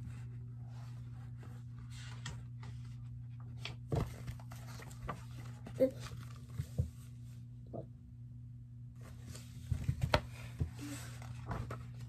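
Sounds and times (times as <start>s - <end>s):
book being handled: 0.0s - 7.5s, 9.0s - 12.0s
low steady hum: 0.0s - 12.0s.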